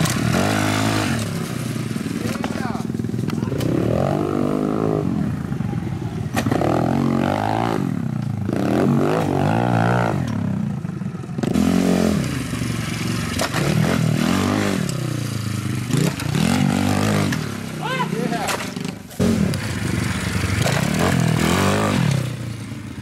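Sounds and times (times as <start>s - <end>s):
pit bike engines revving: 0.0s - 23.0s.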